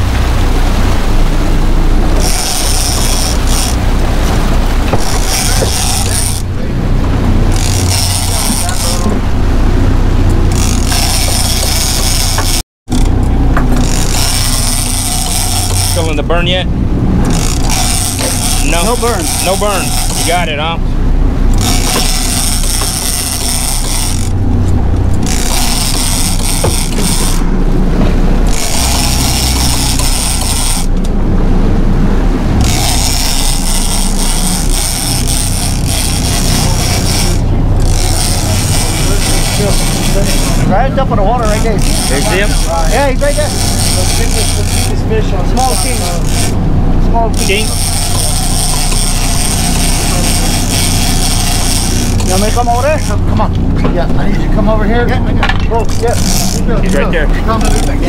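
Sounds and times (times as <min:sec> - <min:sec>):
boat engine rumble: 0:00.0 - 0:58.0
fishing reel gears whirring: 0:00.6 - 0:27.5, 0:28.4 - 0:31.5, 0:32.6 - 0:58.0.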